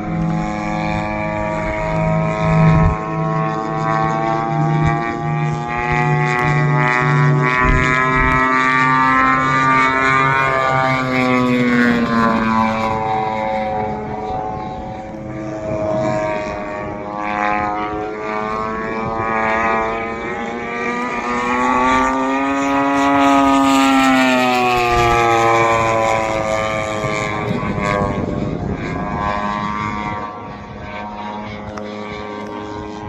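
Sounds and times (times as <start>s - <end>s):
model plane engine and propeller: 0.0s - 33.0s.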